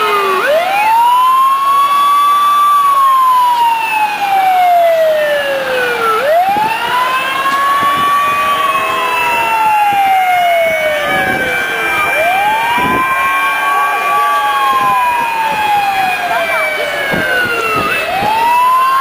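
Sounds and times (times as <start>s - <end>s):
fire engine siren wailing: 0.0s - 19.0s.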